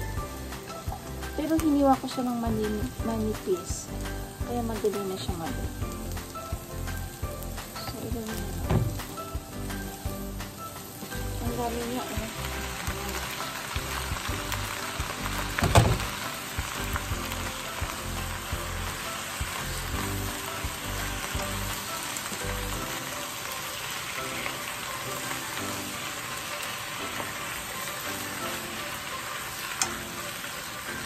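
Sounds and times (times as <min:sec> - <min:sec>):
vegetables sizzling in a frying pan: 0:00.0 - 0:31.0.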